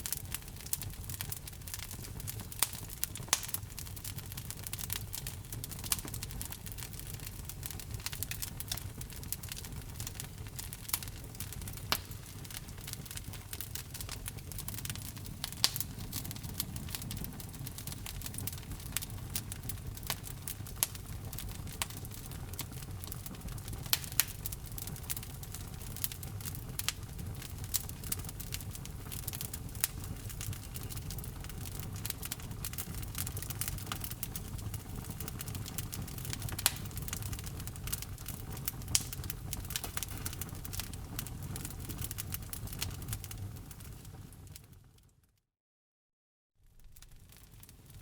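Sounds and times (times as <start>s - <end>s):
burning logs crackling and popping: 0.0s - 44.9s, 46.7s - 48.0s
low rumble of flames: 0.0s - 45.1s, 46.6s - 48.0s.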